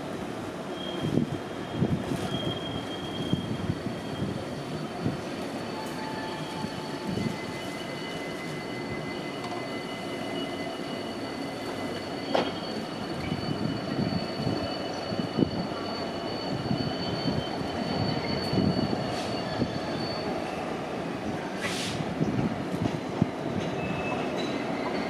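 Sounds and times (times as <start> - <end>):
train rumbling: 0.0 - 25.0
train wheels squealing: 0.7 - 25.0.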